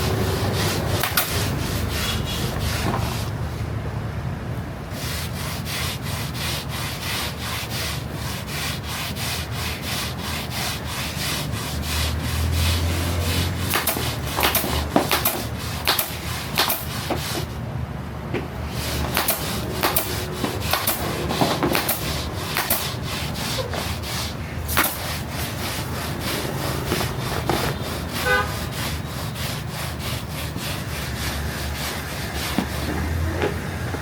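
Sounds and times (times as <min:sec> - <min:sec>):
rubbing scraping strokes: 0:00.0 - 0:03.7, 0:04.9 - 0:17.6, 0:18.6 - 0:34.0.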